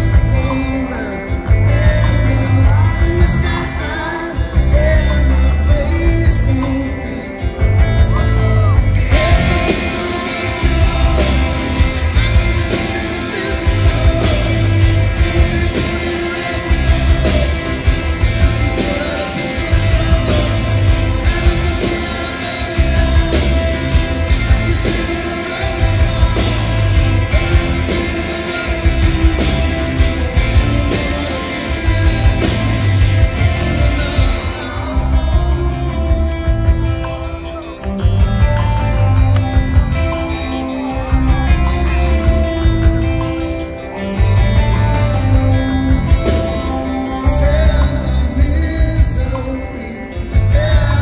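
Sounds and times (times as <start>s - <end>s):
man singing lead vocal: 0.0s - 51.0s
rock band playing live: 0.0s - 51.0s.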